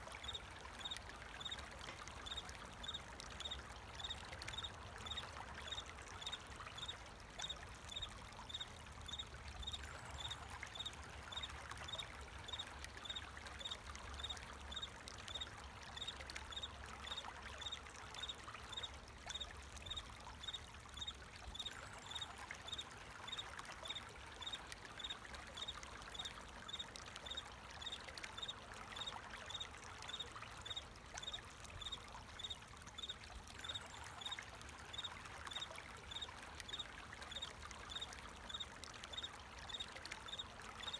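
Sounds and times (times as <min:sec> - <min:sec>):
water flowing: 0:00.0 - 0:40.9.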